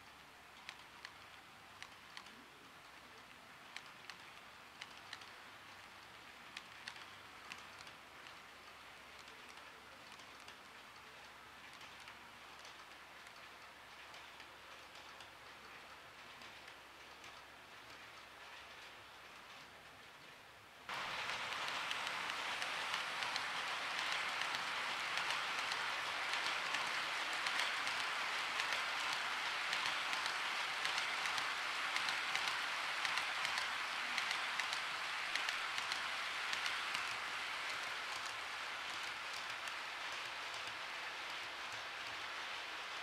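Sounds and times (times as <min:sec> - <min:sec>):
model train wheels on rails: 0:00.0 - 0:43.0.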